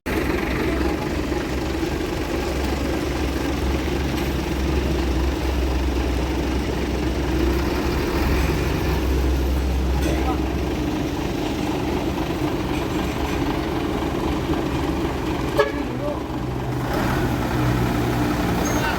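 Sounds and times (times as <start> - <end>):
truck engine idling: 0.1 - 18.9.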